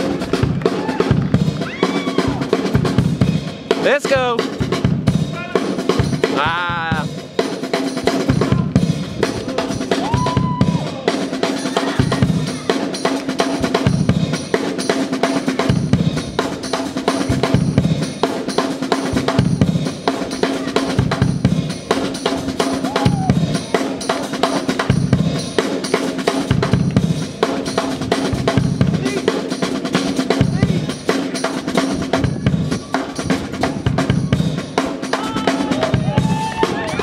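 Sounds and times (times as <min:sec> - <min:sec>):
congas playing: 0:00.0 - 0:37.0
drum kit beat: 0:00.0 - 0:37.0.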